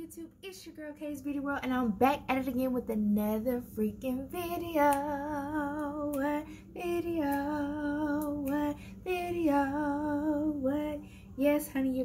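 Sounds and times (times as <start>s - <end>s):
woman singing with vibrato: 0.0s - 12.0s.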